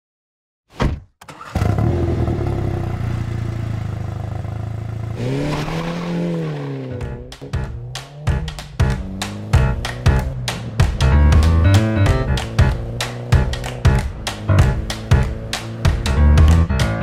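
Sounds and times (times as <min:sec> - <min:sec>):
car engine starting and idling: 0:01.2 - 0:17.0
car engine revving: 0:01.3 - 0:17.0.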